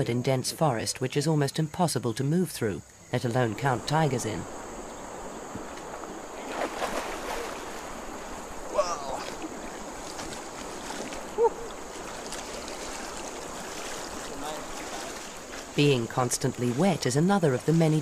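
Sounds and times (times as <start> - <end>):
moving water: 0.0 - 18.0
high insect drone: 0.1 - 18.0.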